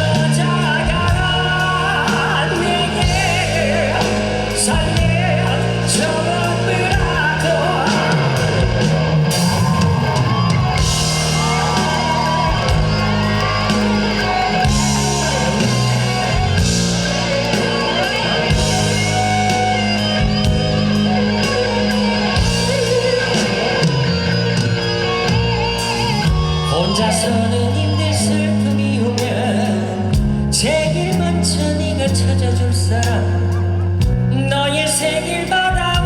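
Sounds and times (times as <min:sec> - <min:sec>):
lead electric guitar melody: 0:00.0 - 0:30.6
bass guitar: 0:00.0 - 0:36.0
drums: 0:00.0 - 0:36.0.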